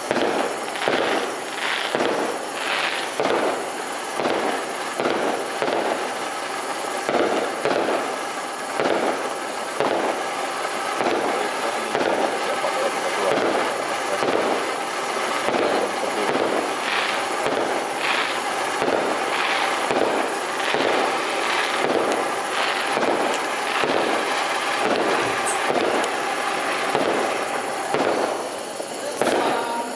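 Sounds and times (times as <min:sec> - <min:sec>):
firework fountain hissing: 0:00.0 - 0:29.9.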